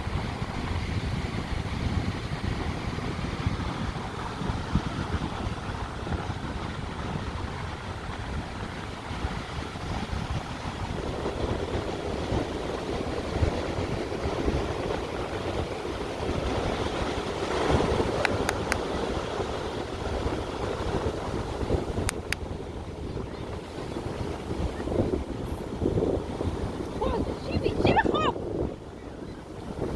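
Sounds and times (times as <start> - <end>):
sea waves on shore: 0.0 - 29.9
wind rumbling on microphone: 0.0 - 29.9.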